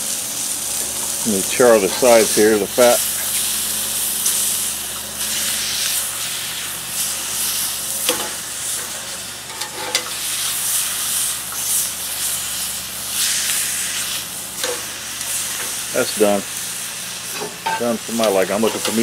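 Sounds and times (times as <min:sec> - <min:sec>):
steak fat sizzling on griddle: 0:00.0 - 0:19.0.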